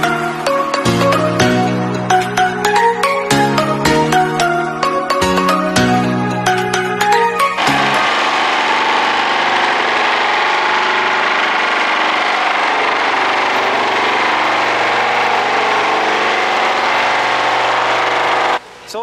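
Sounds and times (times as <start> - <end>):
vibratory pile hammer drone: 0.0 - 18.6.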